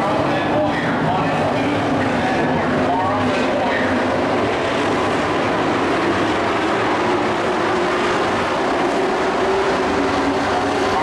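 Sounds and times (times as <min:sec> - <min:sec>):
racing truck engines droning: 0:00.0 - 0:11.0.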